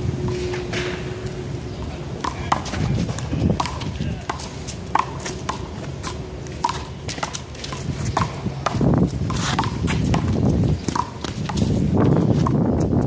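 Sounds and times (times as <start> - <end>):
shoe scuffs on pavement: 2.5 - 13.0.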